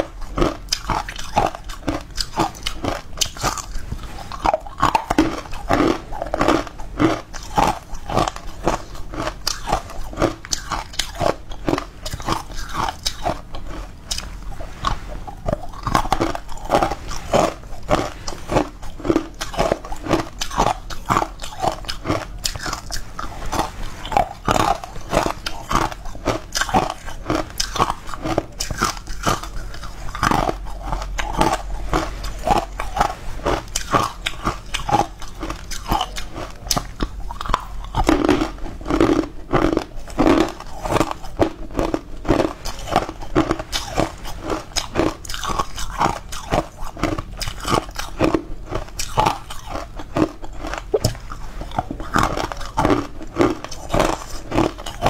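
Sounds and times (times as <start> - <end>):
crisp crunching and chewing: 0.0 - 55.0.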